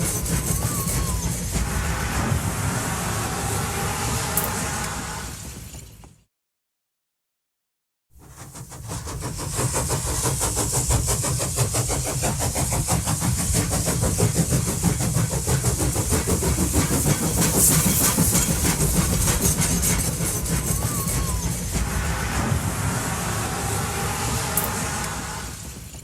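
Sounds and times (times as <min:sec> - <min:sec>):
hiss: 0:00.0 - 0:05.8, 0:08.2 - 0:26.0
train running with rapid beats: 0:00.0 - 0:06.3, 0:08.1 - 0:26.0.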